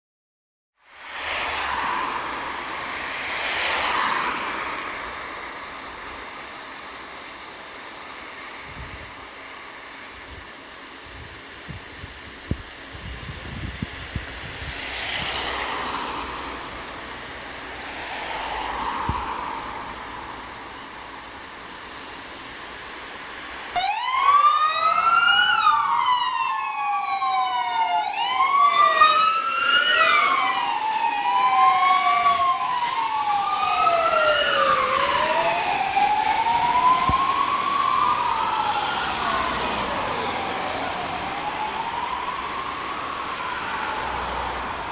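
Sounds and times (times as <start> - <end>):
wailing sirens: 0.9 - 7.8, 10.0 - 44.9
diesel engines rumbling: 1.0 - 44.9.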